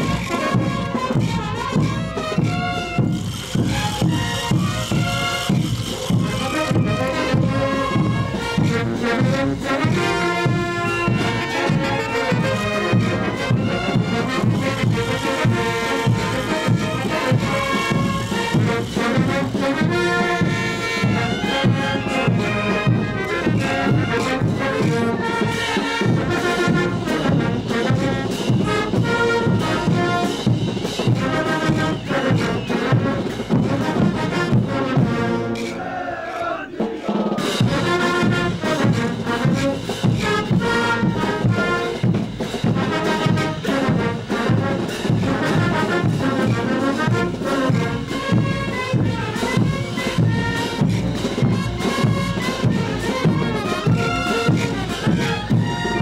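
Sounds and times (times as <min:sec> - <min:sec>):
brass band playing dance music: 0:00.0 - 0:56.0
drum beat: 0:00.0 - 0:56.0.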